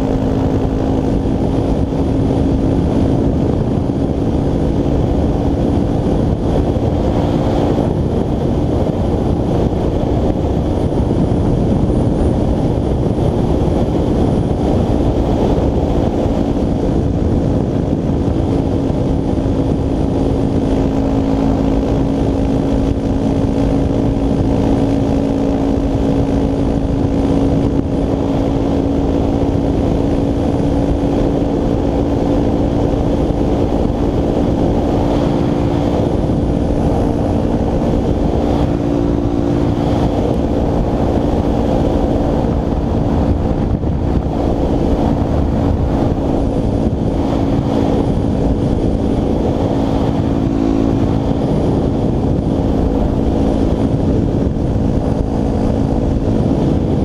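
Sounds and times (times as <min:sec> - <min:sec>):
motorcycle engine cruising: 0:00.0 - 0:57.0
wind rushing on microphone: 0:00.0 - 0:57.0.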